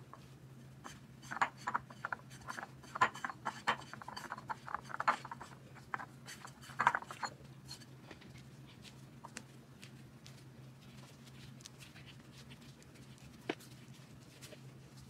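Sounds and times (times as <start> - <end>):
hands rubbing and patting dough: 0.0 - 15.0
steady low hum: 0.0 - 15.0.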